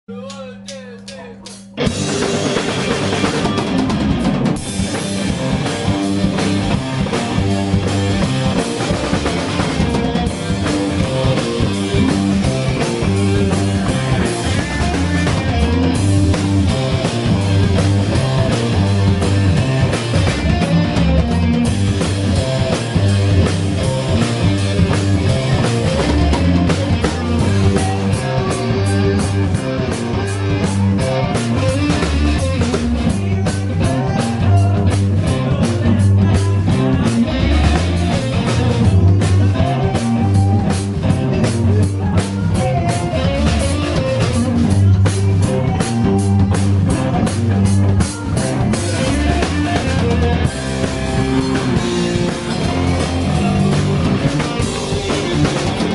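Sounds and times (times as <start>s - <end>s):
drum kit beat: 0.1s - 55.9s
electric guitars: 1.0s - 55.9s.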